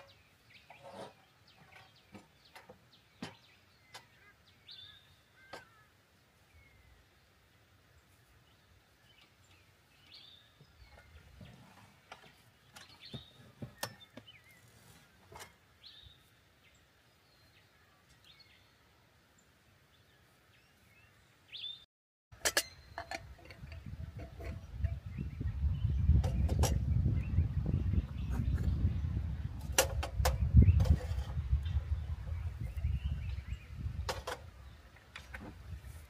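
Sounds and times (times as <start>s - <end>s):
small birds chirping: 0.0s - 21.9s, 22.7s - 36.0s.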